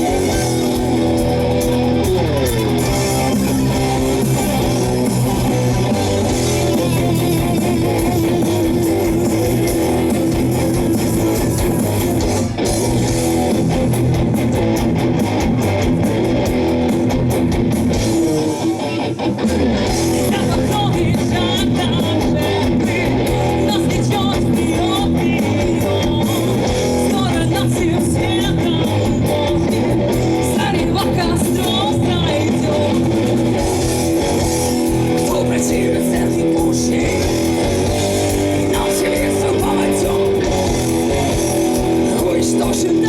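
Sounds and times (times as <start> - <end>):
electric guitars: 0.0 - 43.0
live rock band: 0.0 - 43.0.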